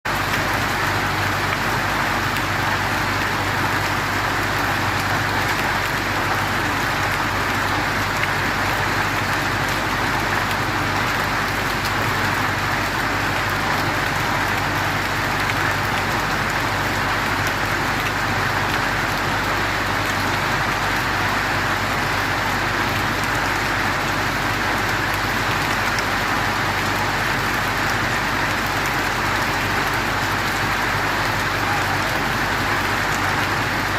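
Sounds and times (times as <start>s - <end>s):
heavy rain and hail: 0.1s - 33.9s.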